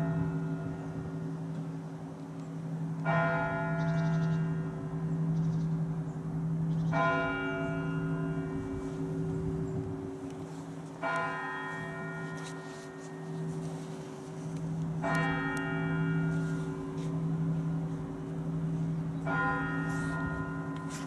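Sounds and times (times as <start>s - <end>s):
large church bell clanging: 0.0s - 21.0s.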